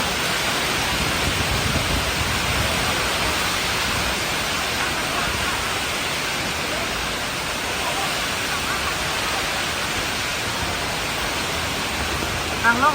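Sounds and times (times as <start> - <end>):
heavy rain: 0.0 - 12.9
wind rumbling: 0.0 - 12.9.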